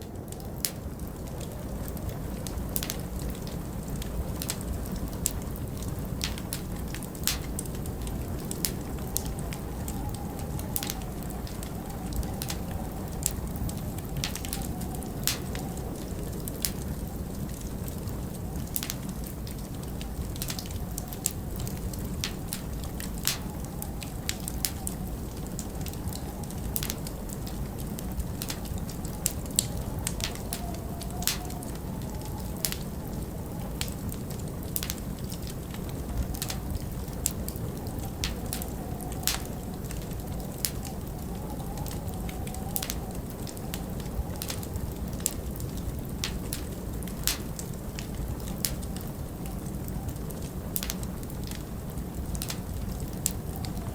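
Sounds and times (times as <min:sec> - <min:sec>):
fire pops: 0:00.0 - 0:53.9
low winter wind howling: 0:00.0 - 0:53.9
wood fire crackling: 0:00.0 - 0:53.9.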